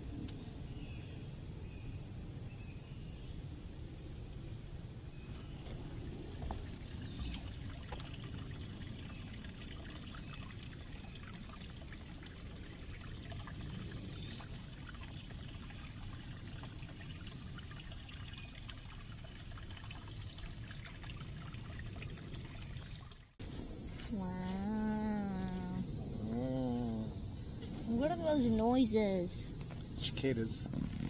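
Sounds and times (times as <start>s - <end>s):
stream trickling over rocks: 5.4s - 31.0s.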